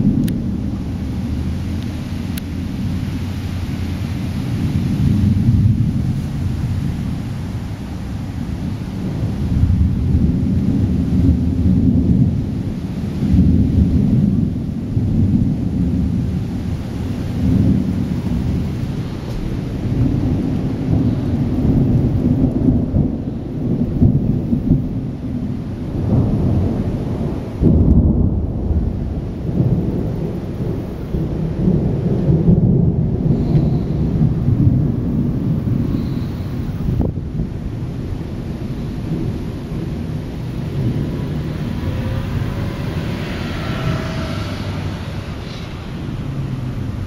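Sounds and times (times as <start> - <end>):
rain falling: 0.0 - 47.0
thunder rumbling: 0.0 - 47.0.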